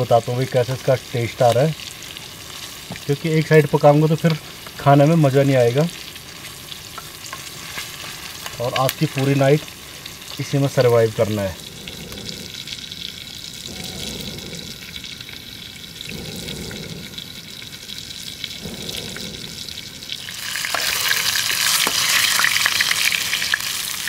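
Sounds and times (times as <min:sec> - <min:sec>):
food sizzling in hot oil: 0:00.0 - 0:24.0
oil spitting and crackling: 0:00.0 - 0:24.0.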